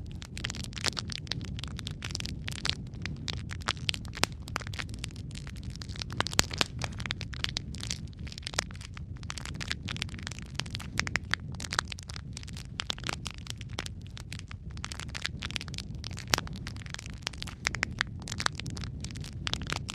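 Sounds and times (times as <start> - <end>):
low rumble of flames: 0.0 - 19.9
wood fire crackling and popping: 0.0 - 19.9.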